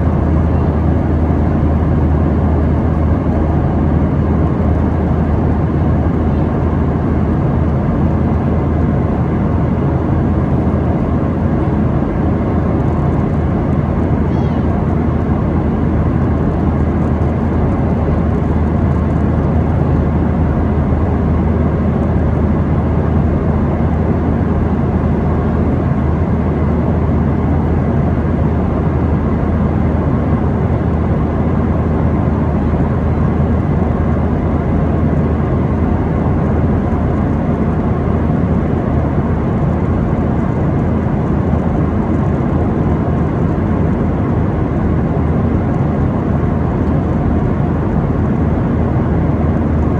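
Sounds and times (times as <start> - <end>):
airliner cabin engine drone: 0.0 - 49.9.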